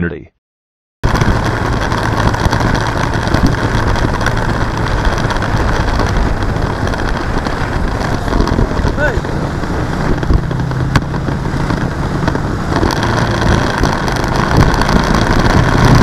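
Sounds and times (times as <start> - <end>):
motorcycle engine hum: 1.0 - 16.0
wind and road noise: 1.0 - 16.0.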